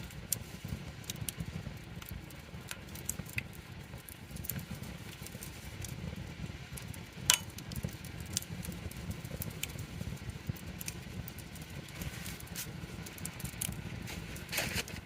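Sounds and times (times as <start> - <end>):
campfire crackling: 0.0 - 15.0
fire popping: 0.0 - 15.0
low steady rumble: 0.0 - 15.0.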